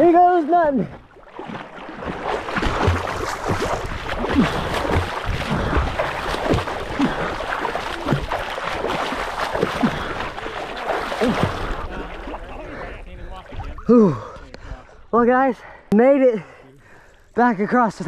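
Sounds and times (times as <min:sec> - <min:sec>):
water splashing from wading: 0:00.0 - 0:15.0.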